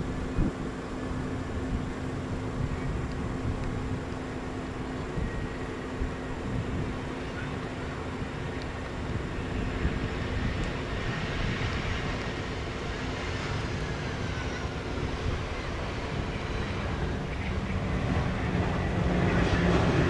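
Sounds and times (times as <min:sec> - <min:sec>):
jet engines of landing airliner: 0:00.0 - 0:20.0.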